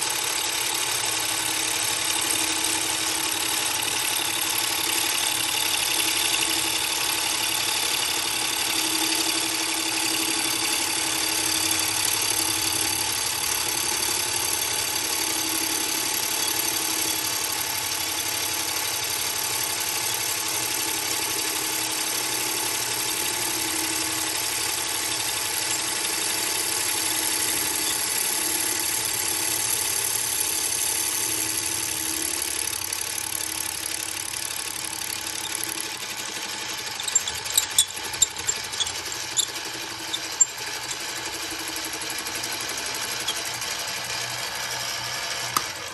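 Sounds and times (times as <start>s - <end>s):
drill press planing wood: 0.0s - 45.9s.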